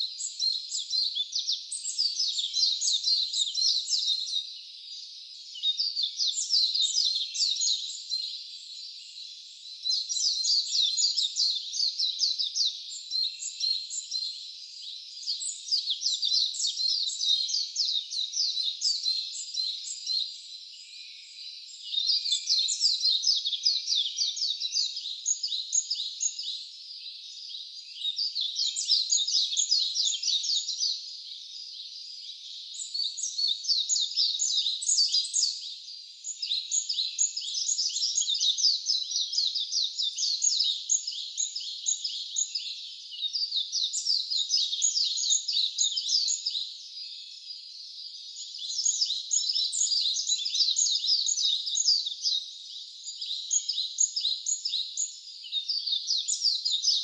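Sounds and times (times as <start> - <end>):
wild birds singing: 0.0 - 57.0.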